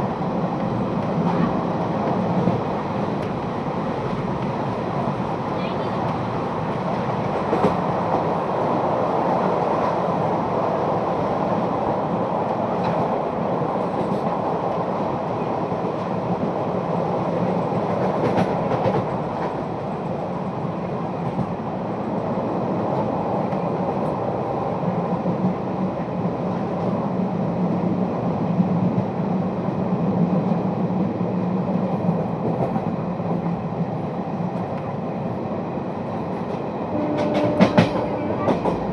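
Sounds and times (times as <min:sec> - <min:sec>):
train rumbling and rattling: 0:00.0 - 0:38.9.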